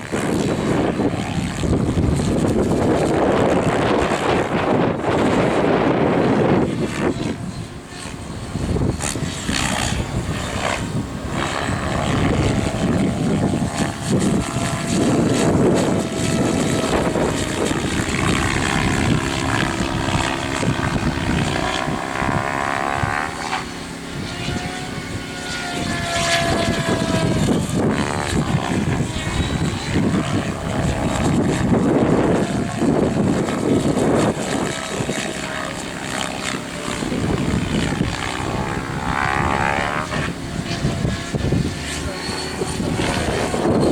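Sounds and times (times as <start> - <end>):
rc helicopter motor whine: 0.0 - 43.9
wind buffeting microphone: 0.0 - 43.9.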